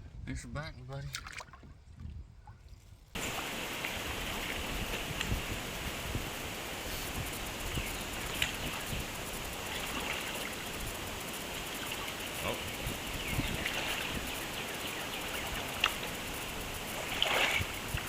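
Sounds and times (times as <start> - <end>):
moving water hissing: 3.2 - 18.0.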